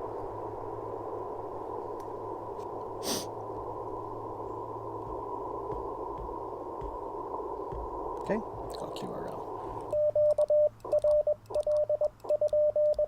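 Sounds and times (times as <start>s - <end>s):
muffled radio static hiss: 0.0s - 12.6s.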